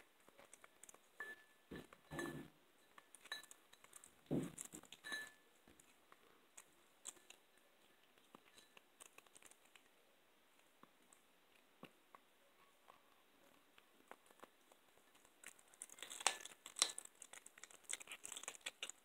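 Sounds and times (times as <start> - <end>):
kitten chewing bone: 0.0 - 2.2, 2.8 - 19.0.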